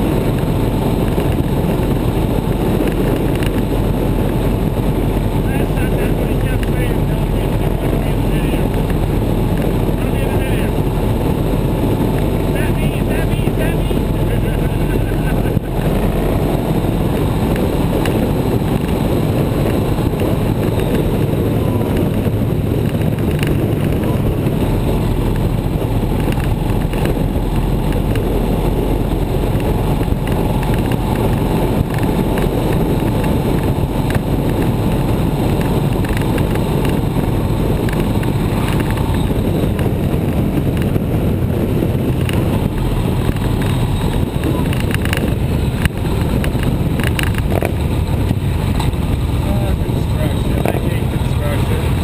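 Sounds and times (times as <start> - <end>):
motorcycle engine drone: 0.0 - 52.0
wind on microphone: 0.0 - 52.0.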